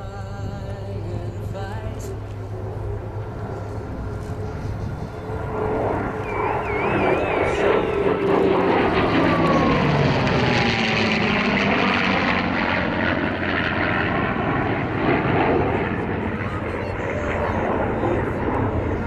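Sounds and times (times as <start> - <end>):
propeller aircraft flying past: 0.0 - 19.0.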